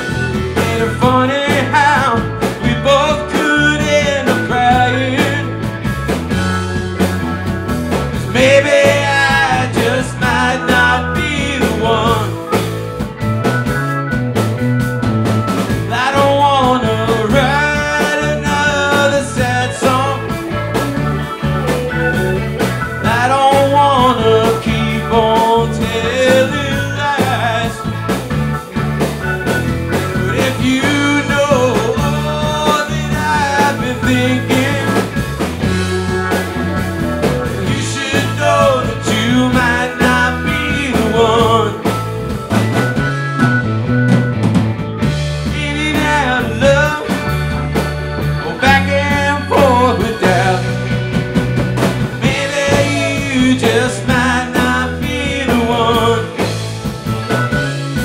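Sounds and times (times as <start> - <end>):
drums: 0.0 - 58.0
electric guitars: 0.0 - 58.0
organ: 0.0 - 58.0.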